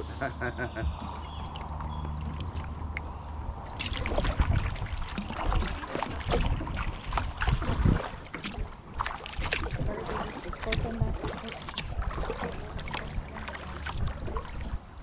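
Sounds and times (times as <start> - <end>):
paddle strokes in water: 0.0 - 15.0
water trickling and splashing: 0.0 - 15.0.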